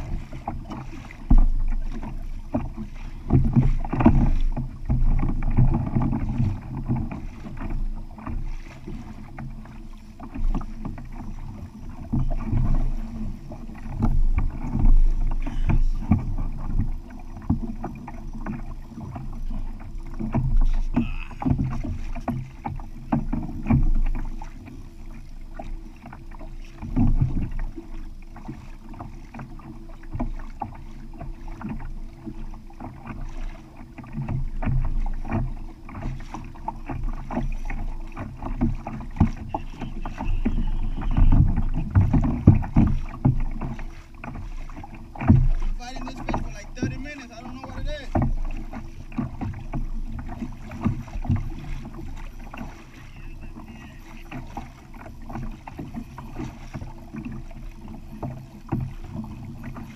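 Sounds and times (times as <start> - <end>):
water slapping against kayak hull: 0.0 - 59.9.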